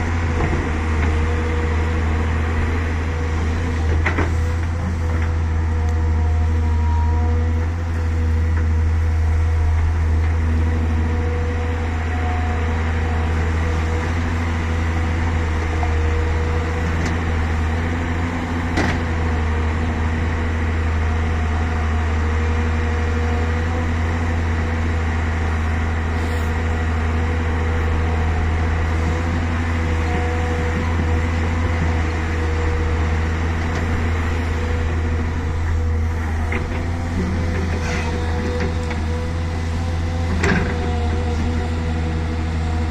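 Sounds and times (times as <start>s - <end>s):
excavator diesel engine droning: 0.0s - 42.9s.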